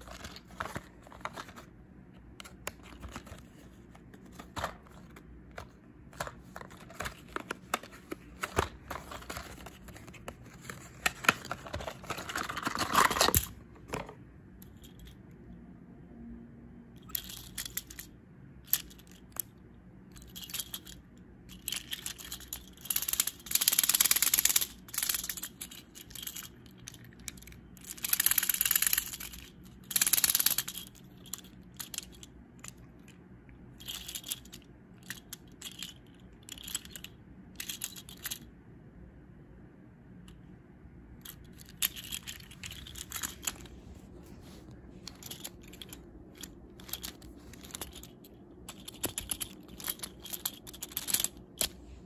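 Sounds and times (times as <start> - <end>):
wooden toy handling rustle: 0.0 - 15.1, 20.2 - 33.2, 33.8 - 38.4, 41.2 - 52.0.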